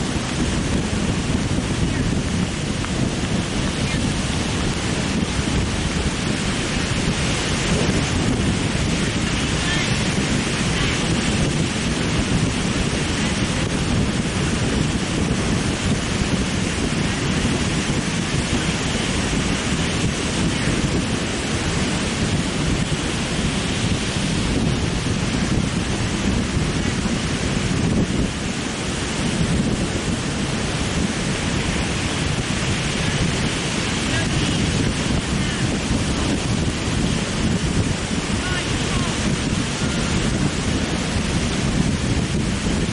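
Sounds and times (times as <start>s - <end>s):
surf breaking on shore: 0.0s - 42.9s
wind on microphone: 0.0s - 42.9s.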